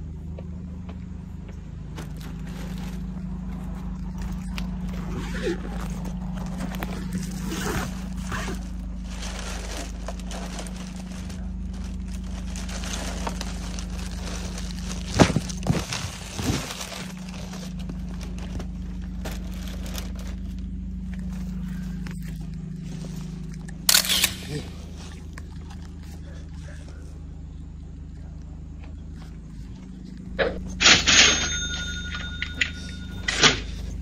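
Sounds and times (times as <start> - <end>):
car road and engine drone: 0.0 - 34.0.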